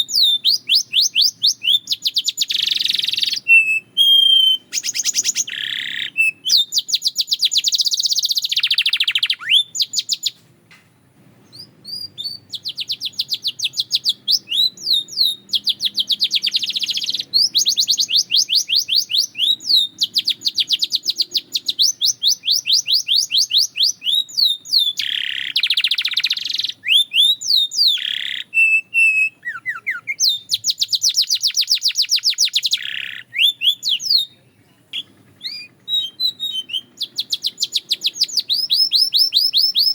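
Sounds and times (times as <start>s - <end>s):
canary singing trills: 0.0s - 10.4s, 11.4s - 39.9s.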